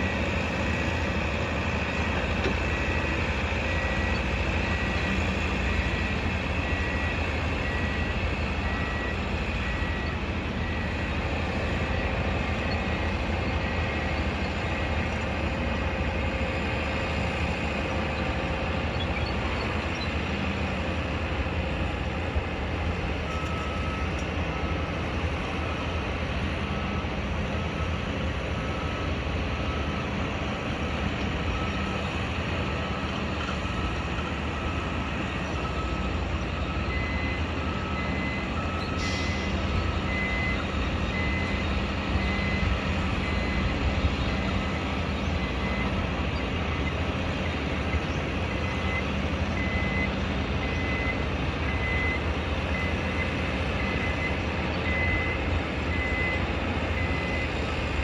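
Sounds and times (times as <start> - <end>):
lower-pitched reversing alarm beeping: 0.0 - 25.7, 33.8 - 58.0
reversing alarm beeping: 0.0 - 25.8, 31.0 - 58.0
heavy machinery rumble: 0.0 - 58.0.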